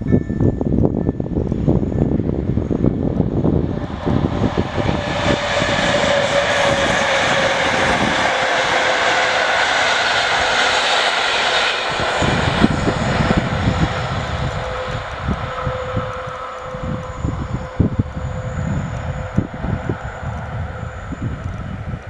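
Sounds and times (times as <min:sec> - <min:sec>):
faint steady whine: 0:00.0 - 0:22.0
train passing at speed: 0:00.0 - 0:22.0.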